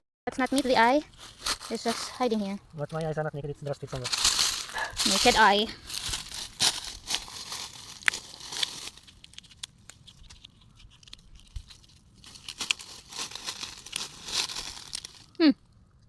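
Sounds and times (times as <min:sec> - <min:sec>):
dry leaves rustling and crunching: 0:00.3 - 0:15.4.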